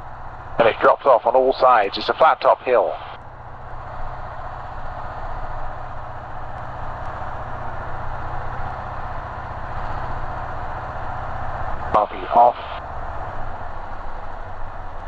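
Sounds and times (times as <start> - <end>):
small plane engine and propeller: 0.0 - 15.0.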